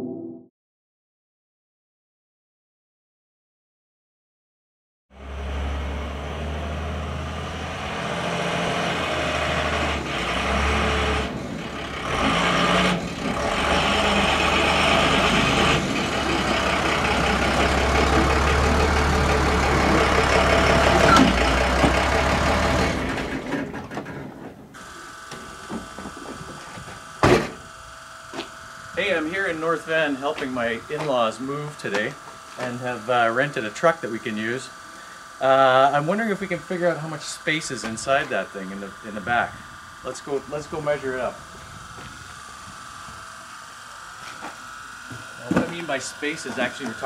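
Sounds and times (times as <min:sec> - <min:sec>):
truck engine running: 0:05.2 - 0:38.4, 0:39.0 - 0:47.0.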